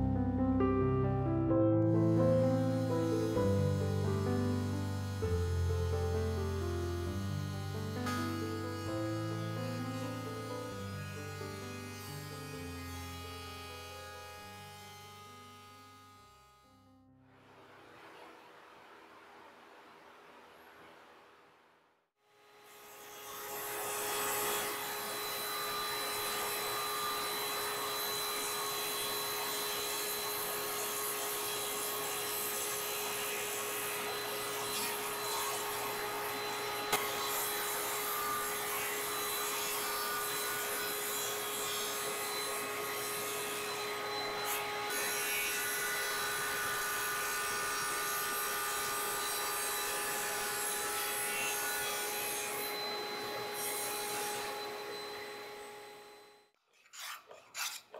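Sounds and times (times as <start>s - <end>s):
table saw cutting wood: 1.7s - 16.8s, 22.4s - 57.9s.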